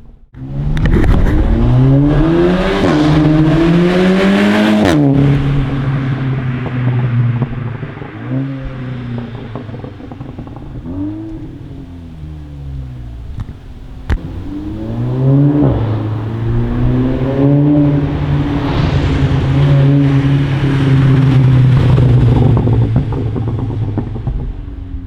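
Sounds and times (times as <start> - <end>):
car engine accelerating: 0.0 - 25.0
exhaust crackles: 0.0 - 25.0
exhaust pop: 0.0 - 25.0.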